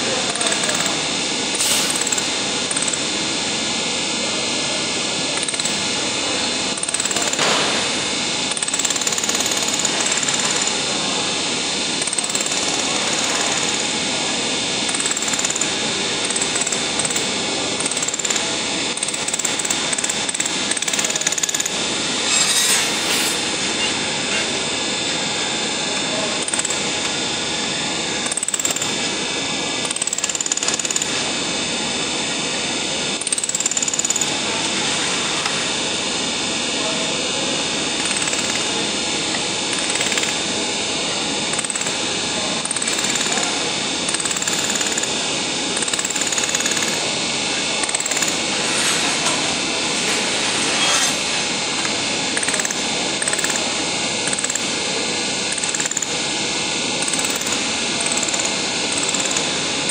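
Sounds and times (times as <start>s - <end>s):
welding machine whirring: 0.2s - 31.4s, 37.2s - 59.9s.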